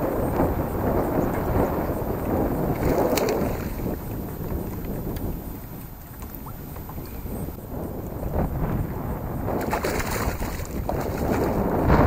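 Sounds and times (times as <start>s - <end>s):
water sloshing against kayak hull: 0.0s - 12.0s
wind on microphone: 0.0s - 12.0s.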